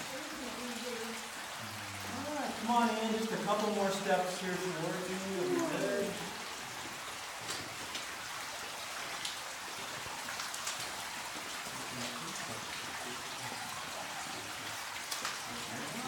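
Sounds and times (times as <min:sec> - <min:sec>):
sharp water drips: 0:00.0 - 0:16.0
water running through cave: 0:00.0 - 0:16.0.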